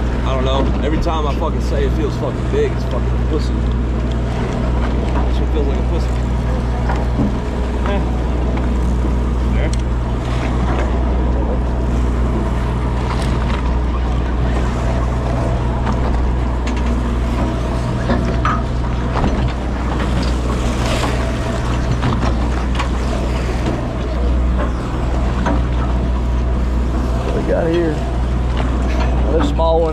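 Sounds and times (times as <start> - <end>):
boat engine low drone: 0.0 - 29.9
water noise: 0.0 - 29.9.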